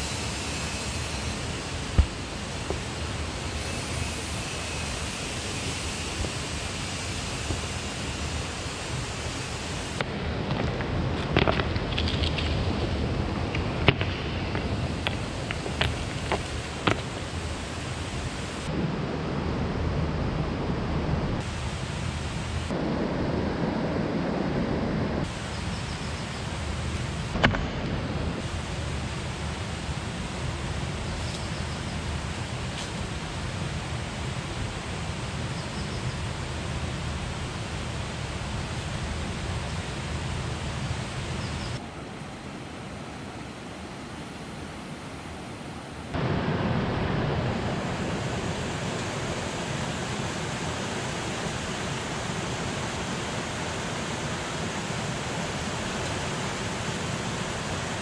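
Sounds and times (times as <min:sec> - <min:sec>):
river rushing over boulders: 0:00.0 - 0:25.5, 0:31.9 - 0:58.0.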